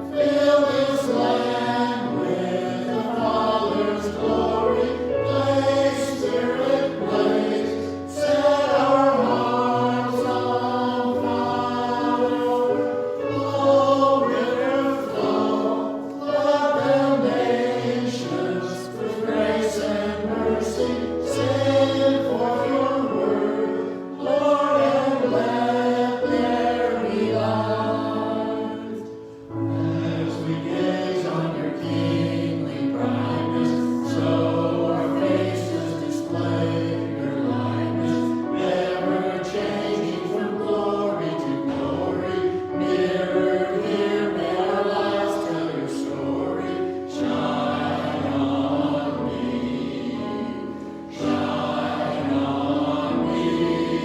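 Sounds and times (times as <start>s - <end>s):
choir singing a worship song: 0.0s - 54.0s.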